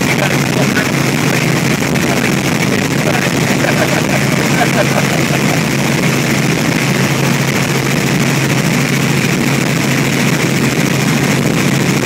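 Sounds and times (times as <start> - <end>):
helicopter rotor and engine noise: 0.0 - 12.0.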